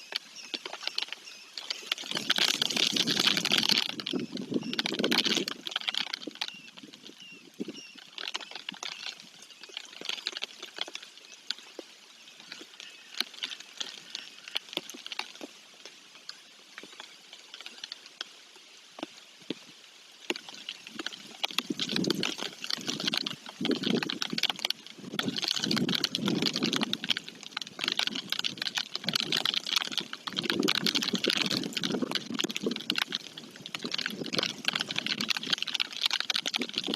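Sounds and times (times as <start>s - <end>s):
rain falling: 0.0s - 36.9s
raindrops ticking: 0.0s - 36.9s.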